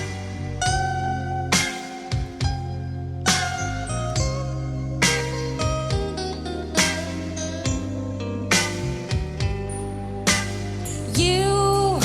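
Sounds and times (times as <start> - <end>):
guitar instrumental music: 0.0 - 12.0
steady bass: 0.0 - 12.0.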